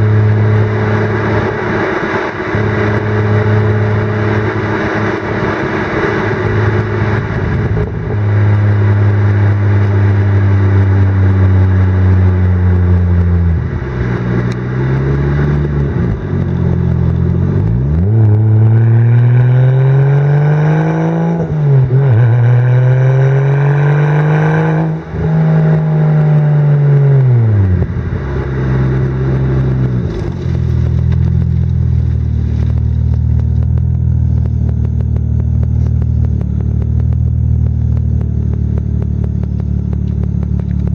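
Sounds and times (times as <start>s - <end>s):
turbocharged car engine revving: 0.0s - 40.9s.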